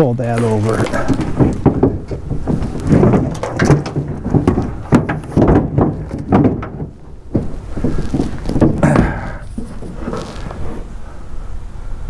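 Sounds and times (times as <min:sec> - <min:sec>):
heavy cable clunking and rubbing: 0:00.0 - 0:11.2.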